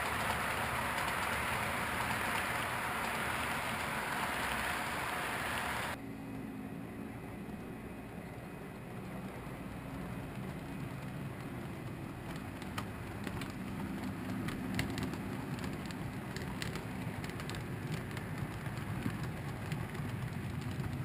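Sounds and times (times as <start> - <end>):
model train rumbling on track: 0.0 - 6.0, 6.6 - 21.0
wheels clicking over rails: 0.0 - 6.0, 8.7 - 21.0.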